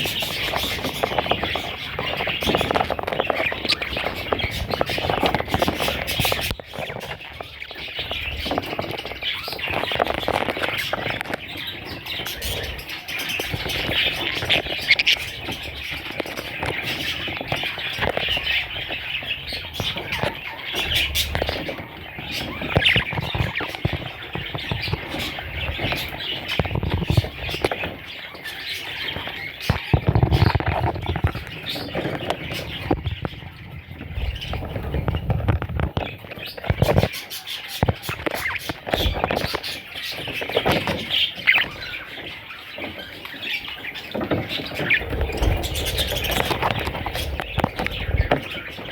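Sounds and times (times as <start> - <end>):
budgerigars chirping and squawking: 0.0 - 48.9.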